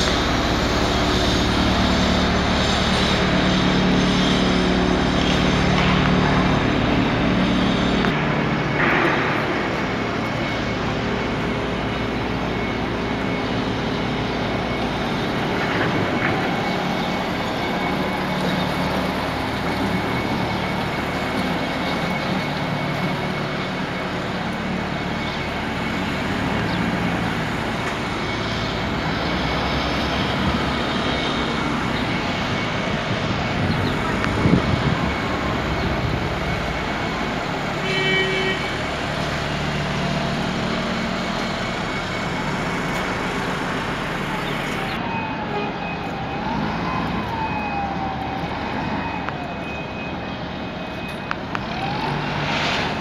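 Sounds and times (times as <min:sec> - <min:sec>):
heavy machinery droning: 0:00.0 - 0:53.0.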